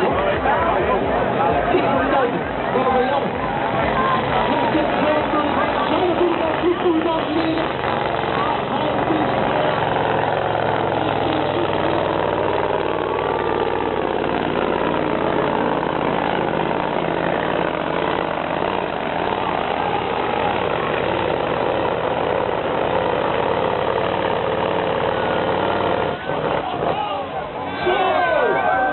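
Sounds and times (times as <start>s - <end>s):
diesel truck engine running: 0.0s - 28.9s.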